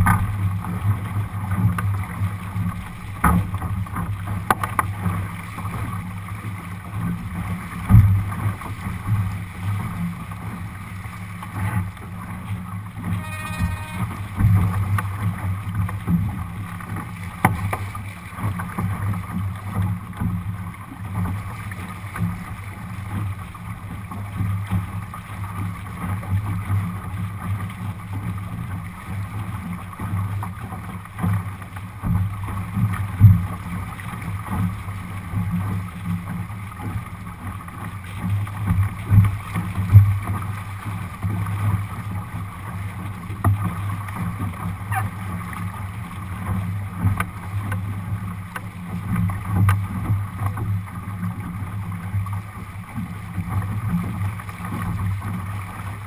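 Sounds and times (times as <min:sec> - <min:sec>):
water rushing along hull: 0:00.0 - 0:56.0.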